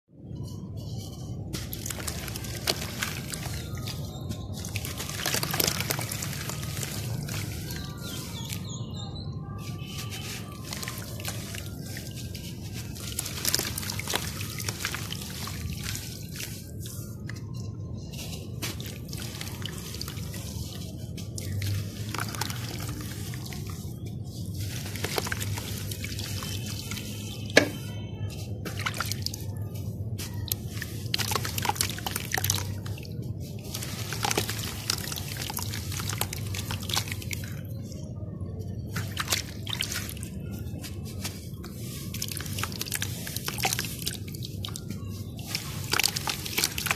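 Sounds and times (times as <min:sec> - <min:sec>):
dry dirt crumbling in hands: 0:00.4 - 0:46.9
wet bits plopping into water: 0:01.6 - 0:08.7, 0:10.1 - 0:17.4, 0:18.3 - 0:23.9, 0:24.6 - 0:27.9, 0:28.6 - 0:29.4, 0:30.2 - 0:37.6, 0:38.8 - 0:40.3, 0:40.9 - 0:46.9.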